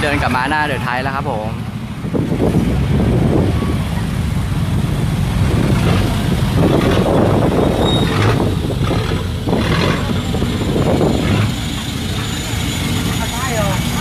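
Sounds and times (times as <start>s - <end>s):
vehicle engines rumbling: 0.0s - 14.0s.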